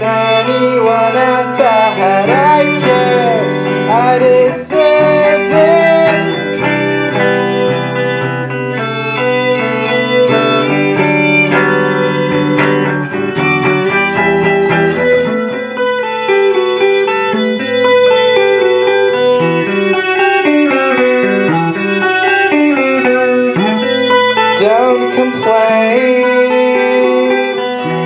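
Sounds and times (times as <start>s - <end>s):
guitar playing: 0.0s - 28.0s
violin playing: 0.0s - 28.0s.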